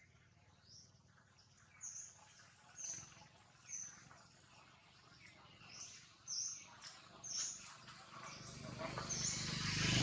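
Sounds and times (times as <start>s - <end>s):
birds chirping: 0.0s - 10.0s
faint outdoor background noise: 0.0s - 10.0s.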